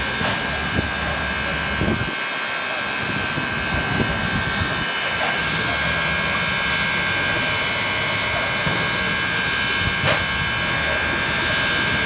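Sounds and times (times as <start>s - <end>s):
steam hissing: 0.0s - 12.0s.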